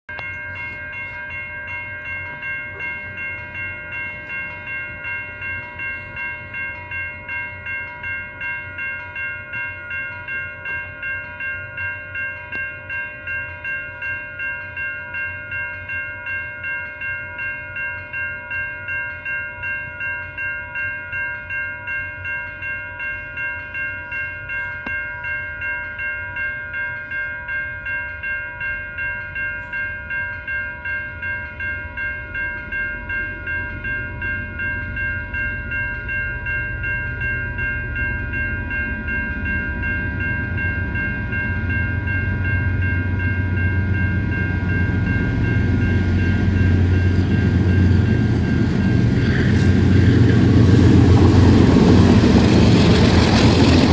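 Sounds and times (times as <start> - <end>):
level crossing warning bell: 0.1 - 53.9.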